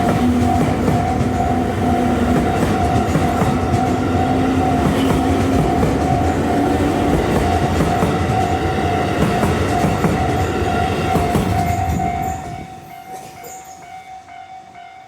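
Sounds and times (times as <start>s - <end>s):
train wheels clattering over rail joints: 0.0s - 13.6s
level-crossing warning bell: 0.0s - 15.0s.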